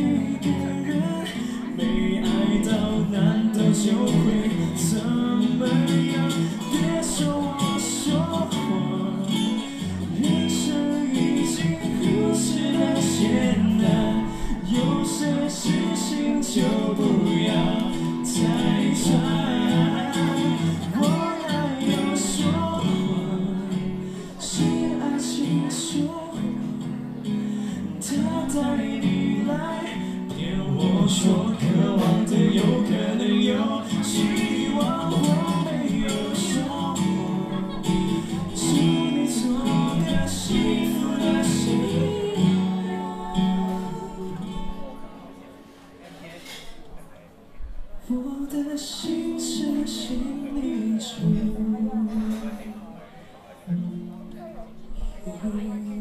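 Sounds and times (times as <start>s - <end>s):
person singing: 0.0s - 45.4s
acoustic guitar strumming: 0.0s - 46.7s, 53.6s - 56.0s.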